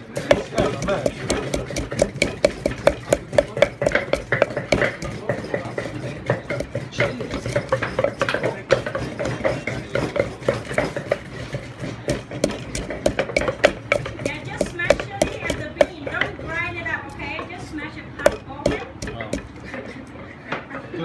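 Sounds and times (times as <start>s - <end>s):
wooden pestle pounding in mortar: 0.0s - 19.8s.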